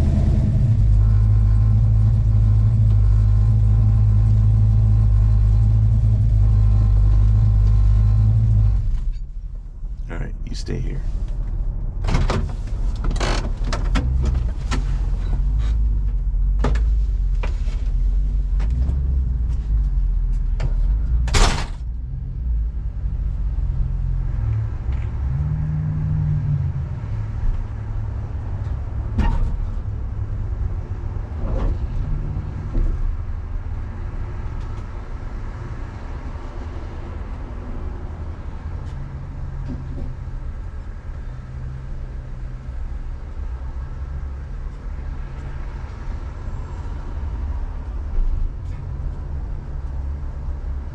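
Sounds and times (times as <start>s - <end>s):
car engine rumbling: 0.0s - 50.9s.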